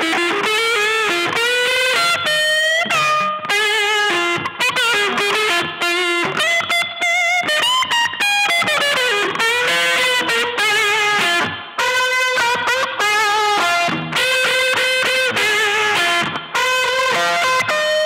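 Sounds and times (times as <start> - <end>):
electric guitar lead with vibrato: 0.0 - 18.0.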